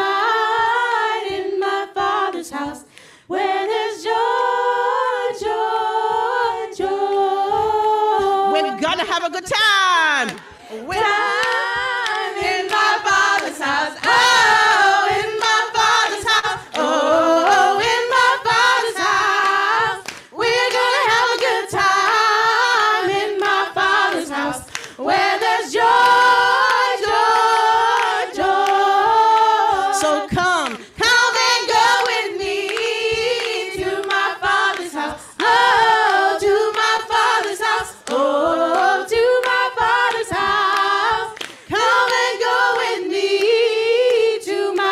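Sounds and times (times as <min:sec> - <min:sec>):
women singing in harmony: 0:00.0 - 0:08.8, 0:10.5 - 0:44.9
hand claps: 0:08.2 - 0:44.9.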